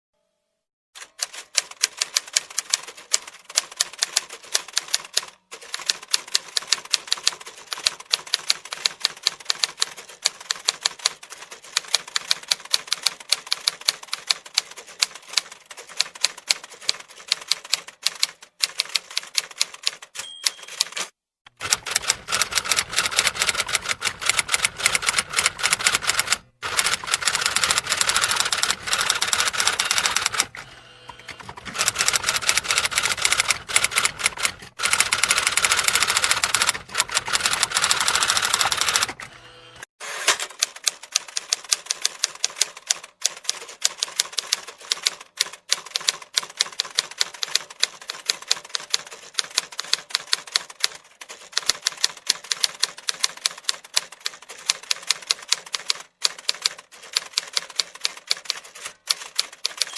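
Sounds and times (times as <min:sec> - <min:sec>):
typewriter keys clacking: 0:01.0 - 0:30.5, 0:31.4 - 0:39.2, 0:40.3 - 0:59.9.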